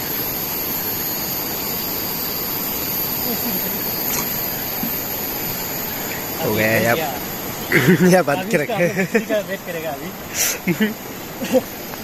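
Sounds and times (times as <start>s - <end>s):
fast-flowing river rushing: 0.1s - 12.0s.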